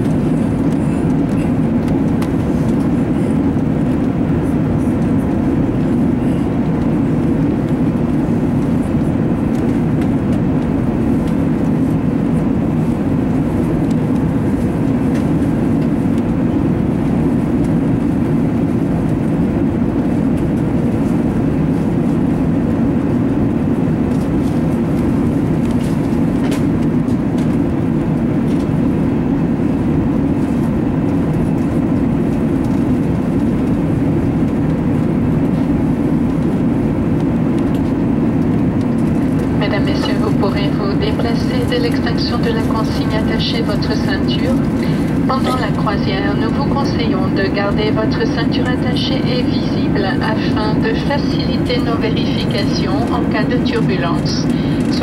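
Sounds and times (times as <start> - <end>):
airplane cabin engine roar: 0.0 - 55.0.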